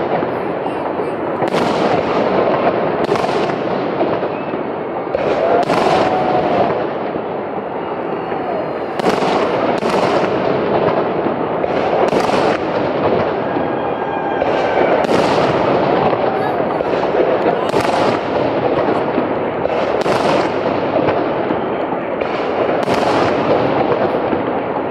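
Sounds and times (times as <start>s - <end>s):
fireworks crackling: 0.0s - 24.9s.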